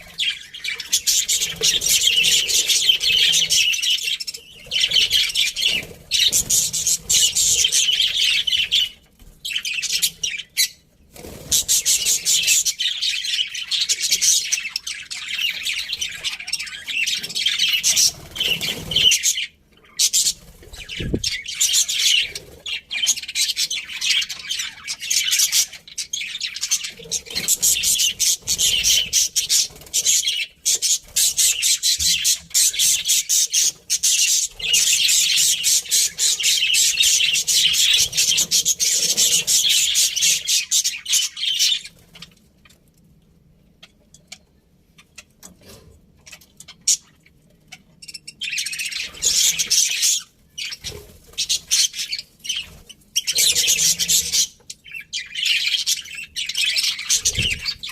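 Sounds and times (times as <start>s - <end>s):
budgerigars chirping and chattering: 0.0s - 42.9s, 43.7s - 57.9s.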